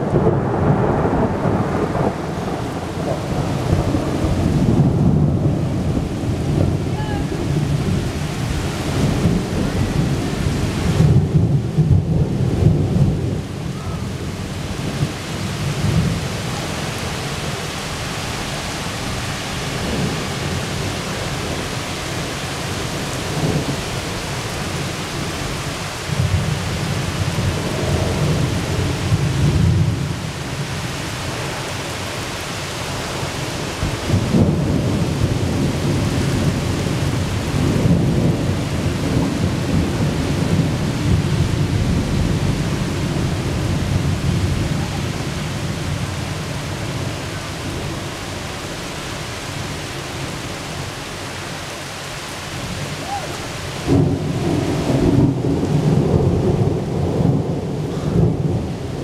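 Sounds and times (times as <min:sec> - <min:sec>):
rolling thunder: 0:00.0 - 0:17.8, 0:19.0 - 0:30.6, 0:33.2 - 0:48.0, 0:52.7 - 0:59.0
steady rain: 0:00.0 - 0:59.0.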